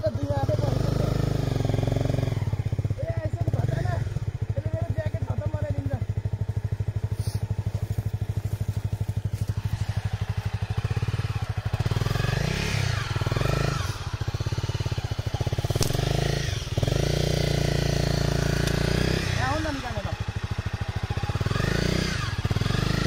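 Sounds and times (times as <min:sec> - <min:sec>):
dirt bike engine idling: 0:00.0 - 0:23.0
dirt bike engine revving: 0:00.0 - 0:23.0.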